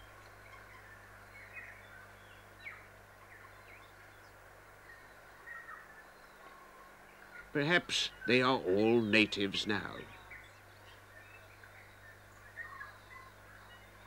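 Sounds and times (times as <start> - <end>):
faint birdsong: 0.0 - 14.0
low steady hum: 0.0 - 14.0.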